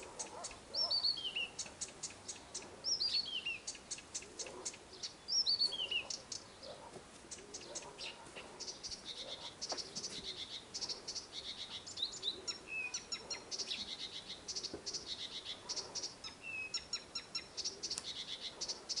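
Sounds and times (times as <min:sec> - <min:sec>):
nightingale singing: 0:00.0 - 0:19.0.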